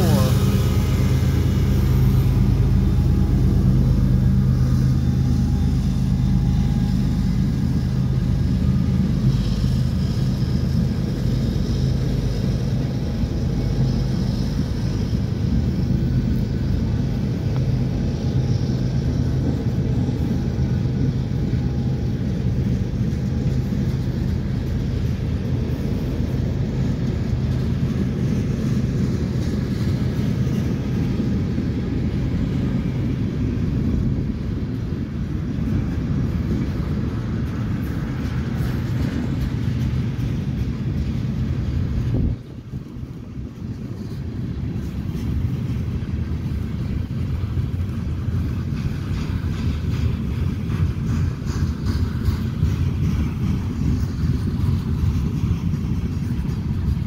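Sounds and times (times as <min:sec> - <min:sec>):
diesel locomotive drone: 0:00.0 - 0:57.0
train wheels rolling on rails: 0:00.0 - 0:57.0.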